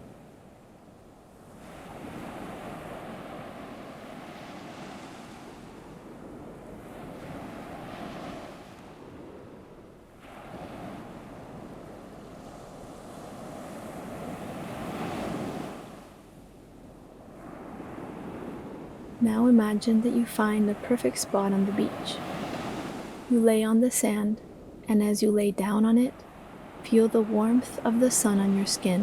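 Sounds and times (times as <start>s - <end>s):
ocean waves washing onto shore: 0.0s - 29.0s.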